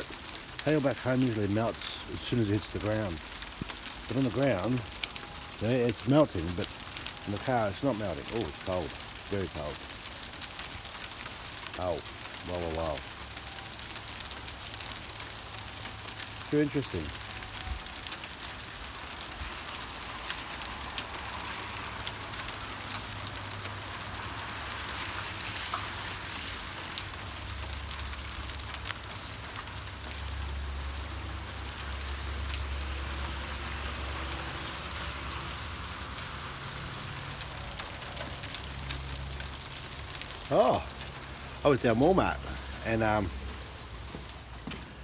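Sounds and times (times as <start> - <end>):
ice pellets ticking on surfaces: 0.0 - 45.0.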